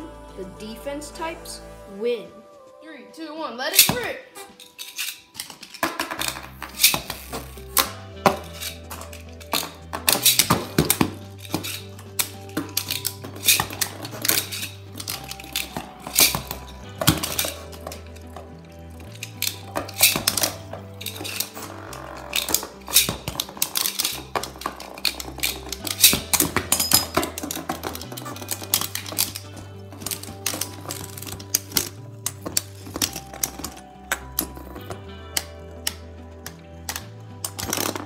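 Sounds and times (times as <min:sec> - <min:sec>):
background music with bass line: 0:00.0 - 0:03.0, 0:05.9 - 0:38.0.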